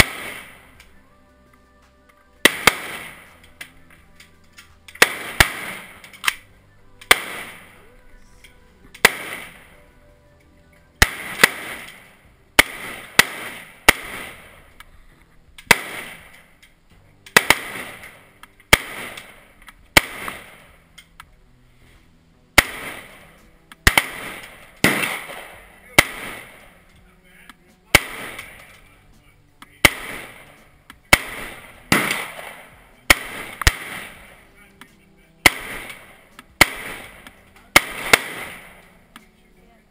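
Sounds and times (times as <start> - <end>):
rifle shots echoing: 0.0 - 0.9, 2.4 - 10.0, 11.0 - 14.9, 15.6 - 21.0, 22.6 - 34.7, 35.4 - 39.4.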